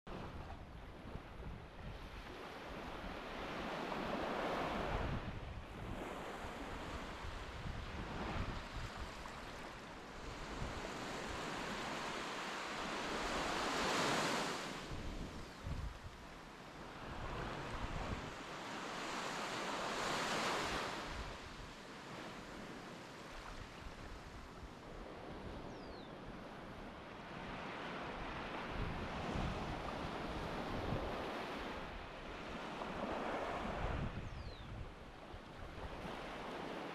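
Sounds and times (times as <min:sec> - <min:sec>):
wind rumbling on microphone: 0:00.1 - 0:12.0, 0:12.8 - 0:18.5, 0:22.5 - 0:36.8
sea waves breaking on shore: 0:00.1 - 0:25.8, 0:26.4 - 0:34.5, 0:35.2 - 0:36.9.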